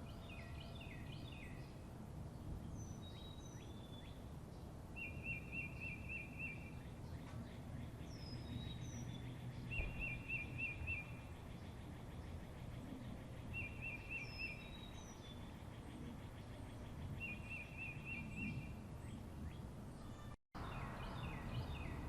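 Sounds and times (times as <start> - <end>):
songbirds calling and singing: 0.0 - 22.0.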